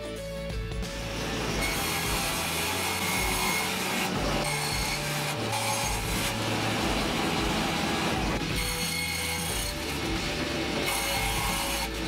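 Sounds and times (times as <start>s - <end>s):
table saw cutting board: 0.8s - 12.0s.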